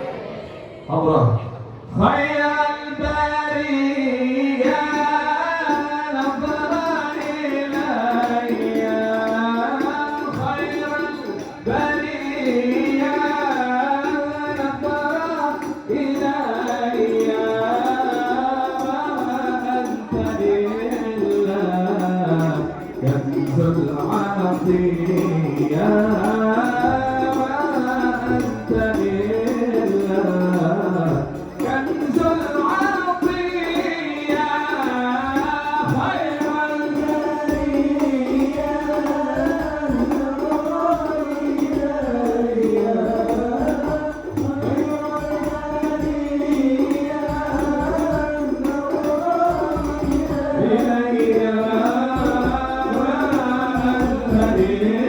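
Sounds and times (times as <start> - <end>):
man singing devotional chant: 0.9 - 55.0
hand drum: 4.5 - 55.0.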